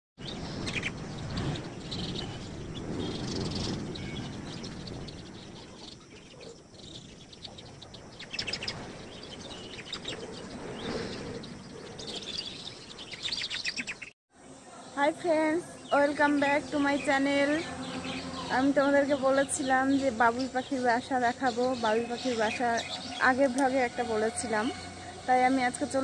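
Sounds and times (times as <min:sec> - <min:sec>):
birds chirping: 0:00.2 - 0:26.0.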